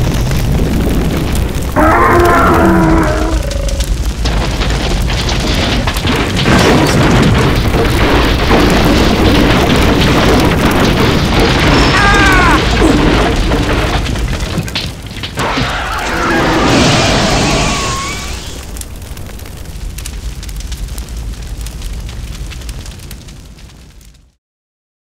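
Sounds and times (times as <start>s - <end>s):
explosion boom and rumble: 0.0s - 24.4s.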